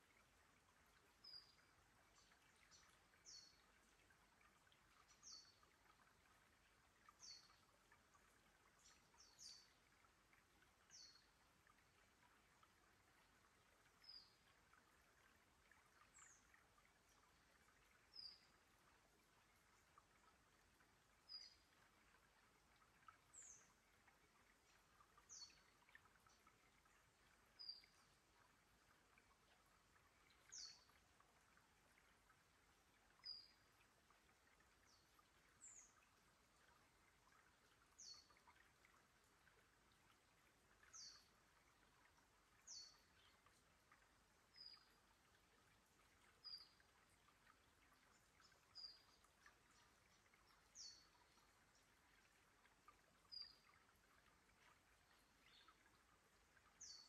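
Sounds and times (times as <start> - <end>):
creek trickling: 0.0 - 57.0.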